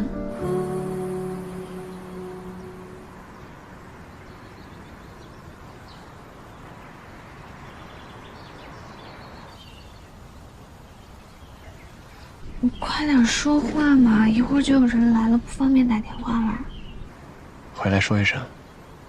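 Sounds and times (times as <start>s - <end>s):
background ambience: 0.0s - 19.0s
faint bird chirps: 0.9s - 19.0s.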